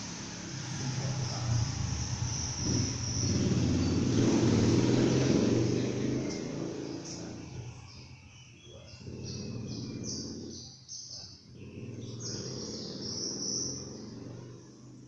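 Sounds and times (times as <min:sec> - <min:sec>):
high chirping calls: 0:00.0 - 0:14.8
low engine-like rumble: 0:00.0 - 0:15.0.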